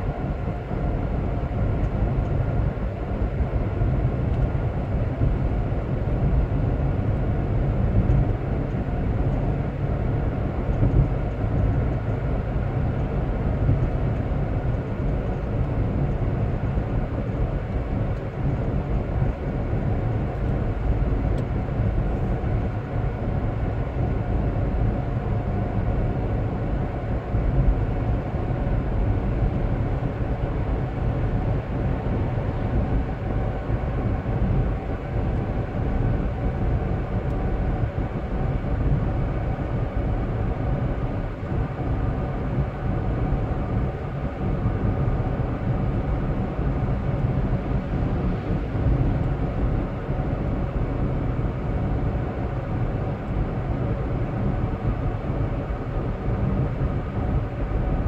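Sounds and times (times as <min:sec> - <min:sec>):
car engine and tyre noise: 0:00.0 - 0:58.0
faint steady hum: 0:00.0 - 0:58.0.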